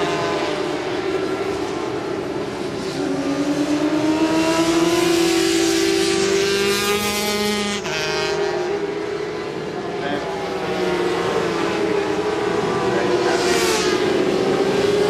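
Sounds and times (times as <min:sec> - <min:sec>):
racing motorcycles accelerating: 0:00.0 - 0:15.0.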